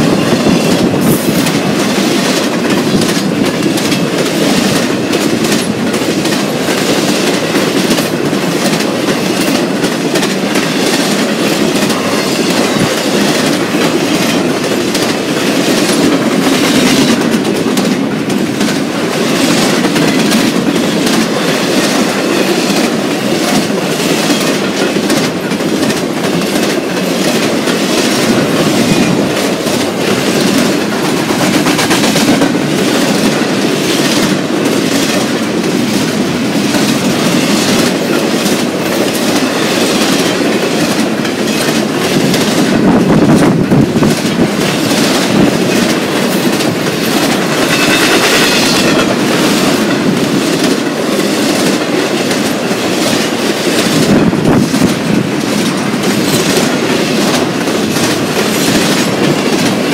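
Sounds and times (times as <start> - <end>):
freight train wheels rushing on rail: 0.0 - 59.9
wheels clacking over rail joints: 0.0 - 59.9.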